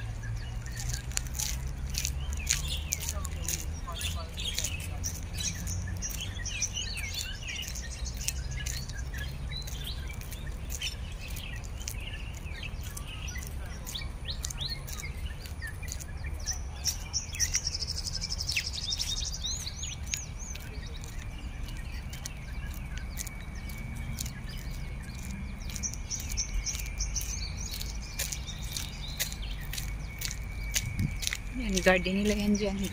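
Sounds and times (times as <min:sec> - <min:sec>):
birds chirping and calling: 0:00.0 - 0:32.9.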